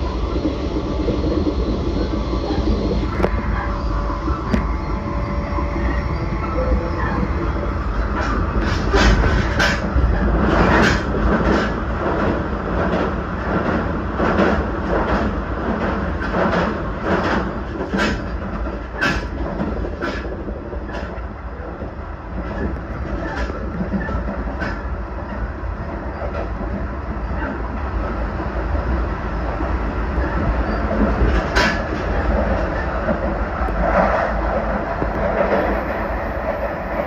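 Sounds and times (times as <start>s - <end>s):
train running rumble: 0.0s - 37.0s
train wheels clacking: 5.8s - 21.2s, 21.8s - 27.8s, 28.4s - 37.0s.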